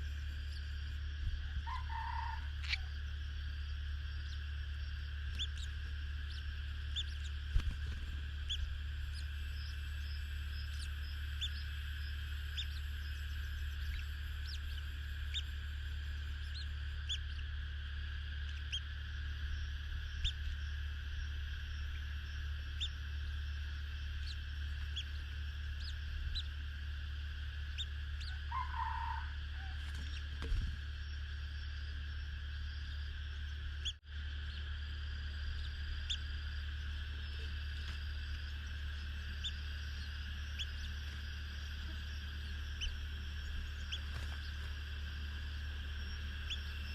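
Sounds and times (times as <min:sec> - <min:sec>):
birds chirping: 0:00.0 - 0:46.9
constant high hiss: 0:00.0 - 0:46.9
steady low hum: 0:00.0 - 0:46.9.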